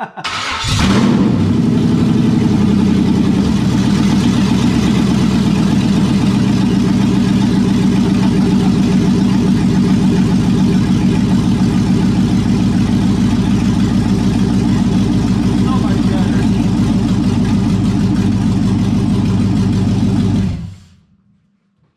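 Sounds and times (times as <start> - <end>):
engine idling: 0.3 - 21.2.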